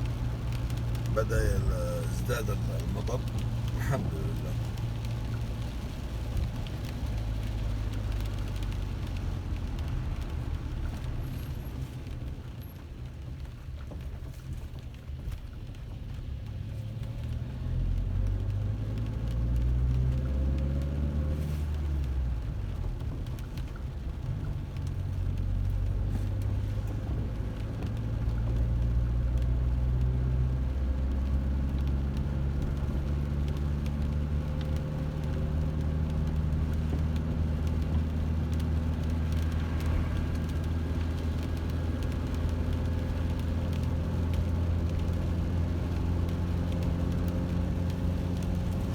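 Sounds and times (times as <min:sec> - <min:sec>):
car engine hum: 0:00.0 - 0:48.9.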